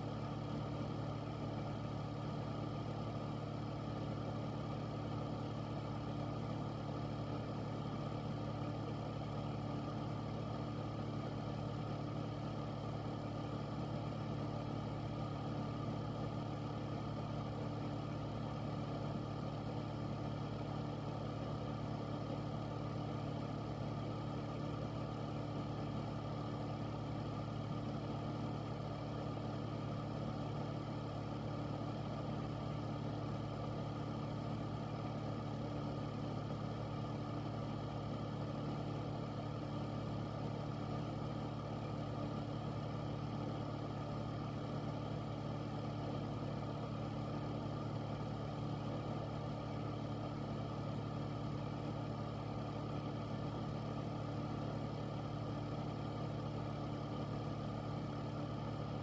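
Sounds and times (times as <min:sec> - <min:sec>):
air purifier fan running: 0:00.0 - 0:59.0.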